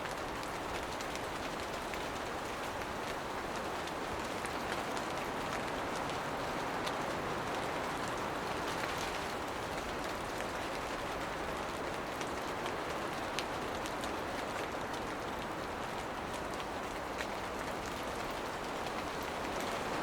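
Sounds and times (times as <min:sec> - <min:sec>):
rain rushing in forest: 0:00.0 - 0:20.0
raindrops ticking on leaves: 0:00.0 - 0:20.0.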